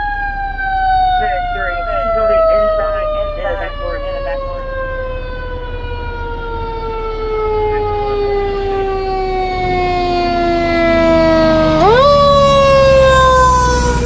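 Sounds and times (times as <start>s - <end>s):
fire engine siren wailing: 0.0s - 14.0s
truck engine rumble: 0.0s - 14.0s.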